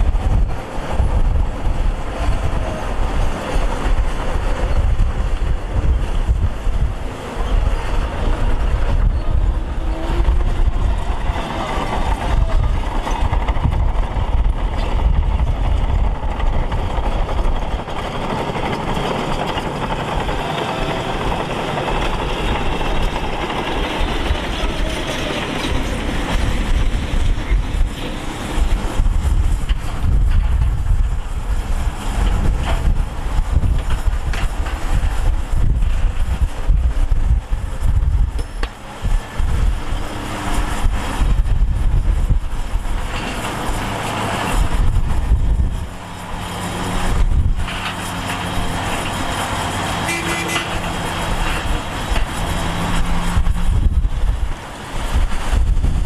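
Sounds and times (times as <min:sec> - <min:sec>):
diesel engine of earthmoving machinery: 0:00.0 - 0:56.0.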